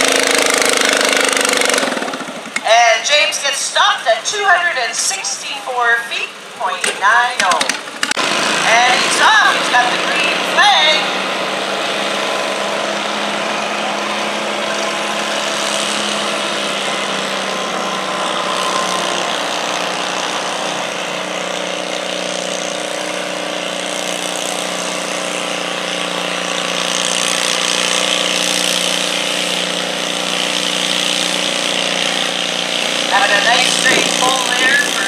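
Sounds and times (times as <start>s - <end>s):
tractor engine drone: 0.0s - 35.0s.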